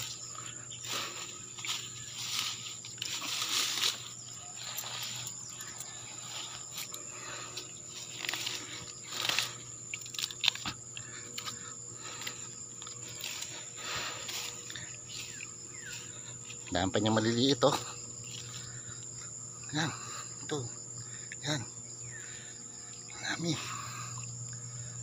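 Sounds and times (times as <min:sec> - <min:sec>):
grass and leaves rustling: 0:00.0 - 0:20.9
high-pitched insect drone: 0:00.0 - 0:25.0.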